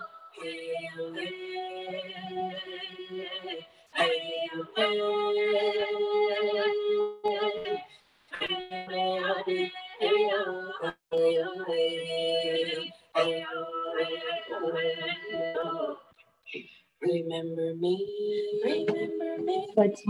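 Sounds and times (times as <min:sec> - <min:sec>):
woman singing wordless vocables: 0:00.0 - 0:16.1, 0:18.0 - 0:20.0.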